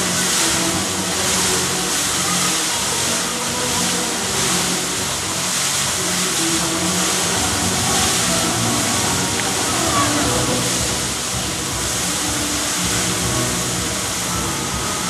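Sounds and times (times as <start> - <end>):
fountain water rushing: 0.0 - 15.0.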